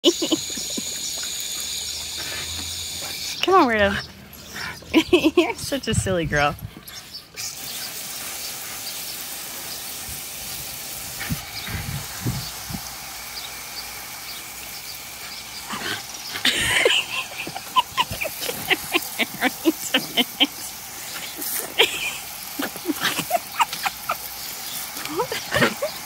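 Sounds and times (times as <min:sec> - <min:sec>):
garden hose spray hissing: 0:00.0 - 0:26.0.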